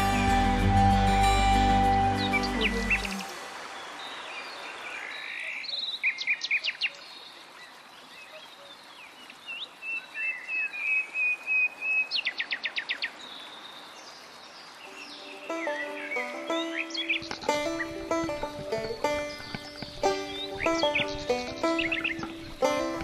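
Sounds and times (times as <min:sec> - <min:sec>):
flowing river water: 0:00.0 - 0:23.0
songbird singing: 0:00.0 - 0:23.0.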